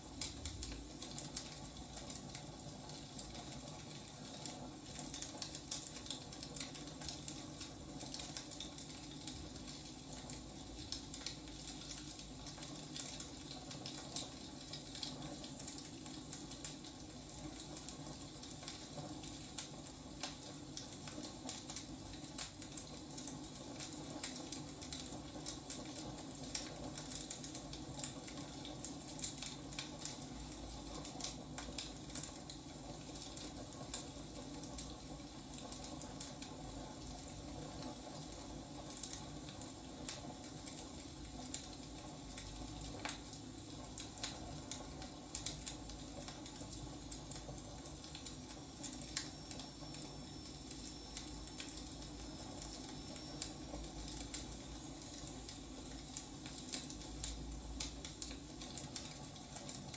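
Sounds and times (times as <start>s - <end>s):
soft fire hiss: 0.0s - 59.9s
wood fire crackling: 0.0s - 59.9s.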